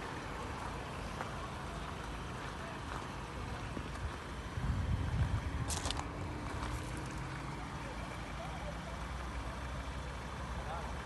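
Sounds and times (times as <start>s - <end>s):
pickup engine at low revs: 0.0s - 11.0s.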